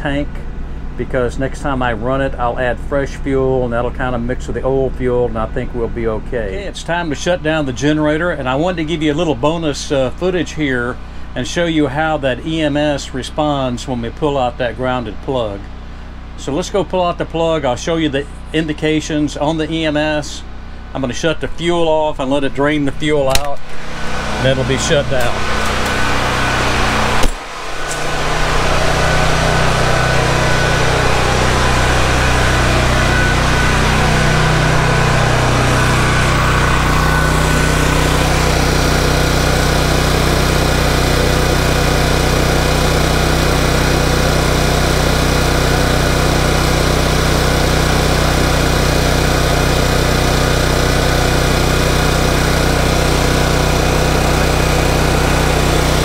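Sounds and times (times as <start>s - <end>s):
generator running: 0.0s - 56.0s.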